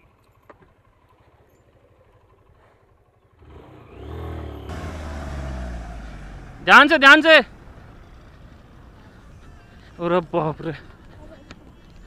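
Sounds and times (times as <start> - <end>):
suv engine labouring uphill: 0.0 - 12.0.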